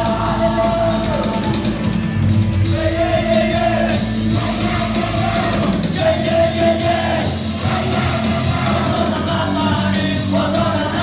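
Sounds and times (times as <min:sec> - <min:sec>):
singers singing into microphones: 0:00.0 - 0:01.8, 0:02.7 - 0:11.0
amplified band accompaniment: 0:00.0 - 0:11.0.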